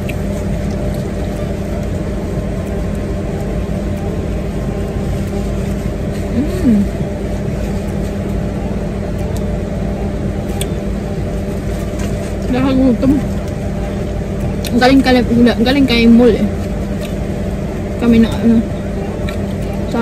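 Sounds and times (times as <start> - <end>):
car idling with air conditioning: 0.0 - 20.0.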